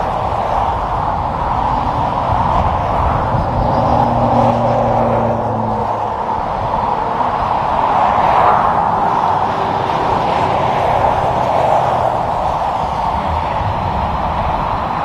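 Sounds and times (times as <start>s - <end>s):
low diesel engine hum: 0.0s - 15.0s
tyre and road noise: 0.0s - 15.0s.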